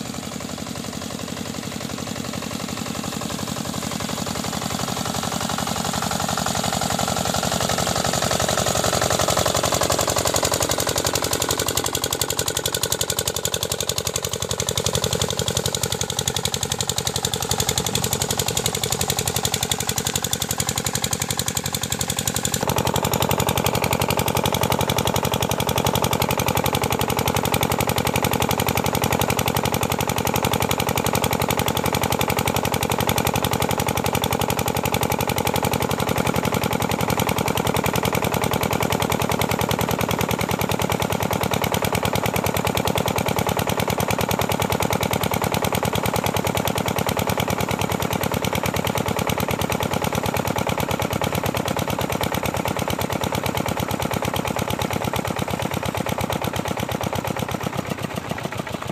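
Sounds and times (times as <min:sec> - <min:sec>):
diesel pump engine running: 0:00.0 - 0:58.9.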